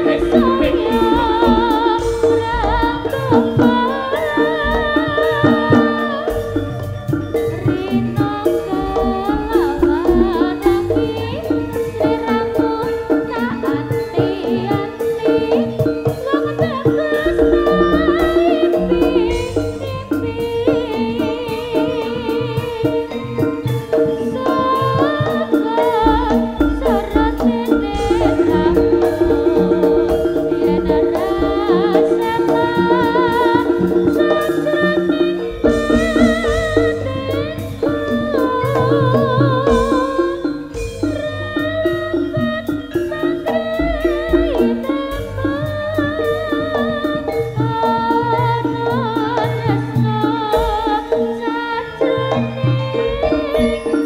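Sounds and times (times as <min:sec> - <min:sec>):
drum beats: 0:00.0 - 0:54.0
gamelan ensemble: 0:00.0 - 0:54.0
gliding melody line: 0:00.0 - 0:54.0
metallophones playing rhythmic notes: 0:00.0 - 0:54.0
person singing: 0:00.0 - 0:54.0.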